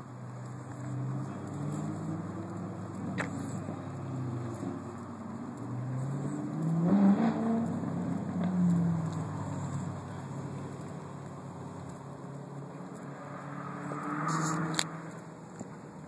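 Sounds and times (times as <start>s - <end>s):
car engines running: 0.0s - 16.0s.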